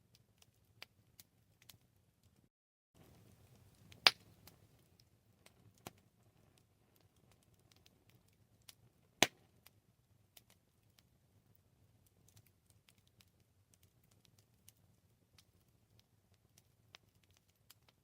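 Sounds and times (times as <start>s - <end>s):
wood fire crackling: 0.0s - 18.0s
faint low hiss: 3.0s - 18.0s.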